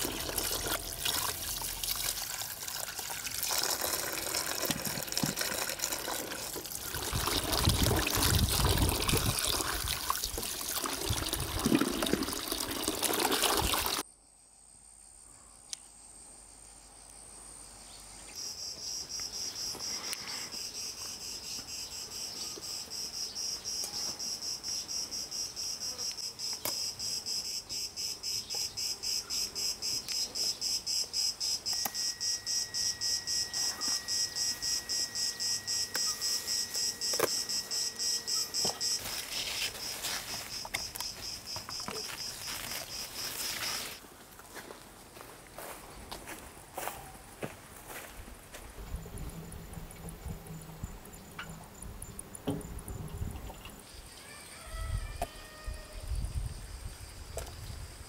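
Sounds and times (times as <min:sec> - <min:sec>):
insects trilling: 0:00.0 - 0:44.0, 0:47.9 - 0:58.0.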